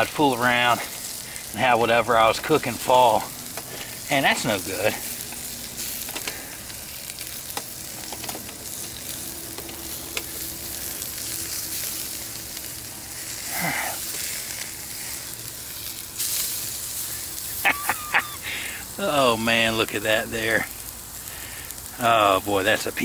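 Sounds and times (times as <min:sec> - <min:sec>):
steak sizzling on a grill: 0:00.0 - 0:23.0.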